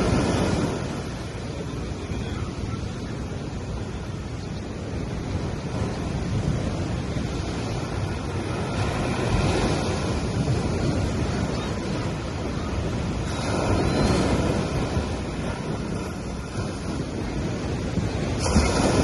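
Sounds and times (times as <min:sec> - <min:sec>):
ocean waves on beach: 0:00.0 - 0:19.0.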